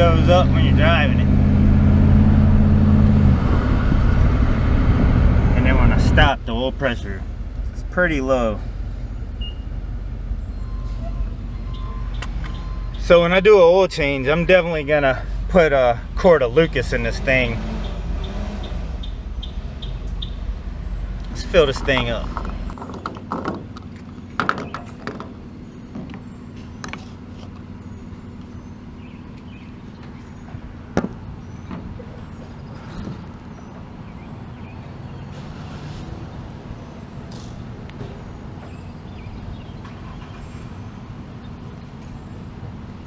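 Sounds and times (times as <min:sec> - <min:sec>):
vehicle engine humming: 0:00.0 - 0:43.0.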